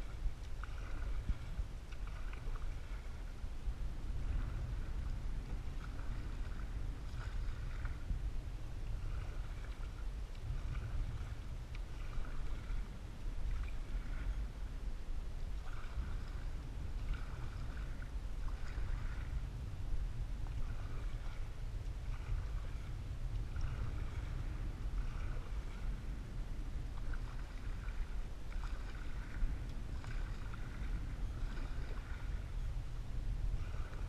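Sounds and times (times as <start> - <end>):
paddle strokes swishing through water: 0.0 - 34.0
steady low rumble: 0.0 - 34.0.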